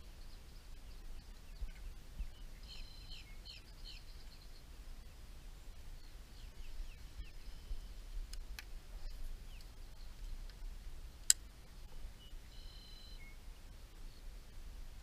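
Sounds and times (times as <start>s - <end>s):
birds chirping: 0.0s - 10.6s, 11.3s - 14.5s
outdoor background noise: 0.0s - 15.0s.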